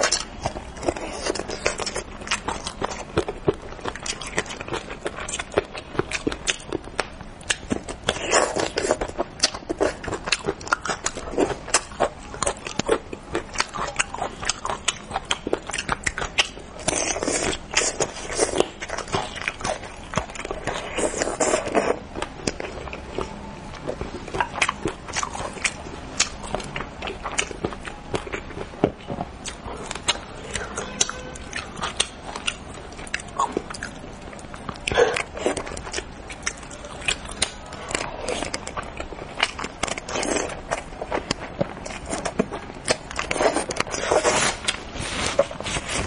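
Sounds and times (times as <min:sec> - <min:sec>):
chewing clicks and smacks: 0:00.0 - 0:44.8.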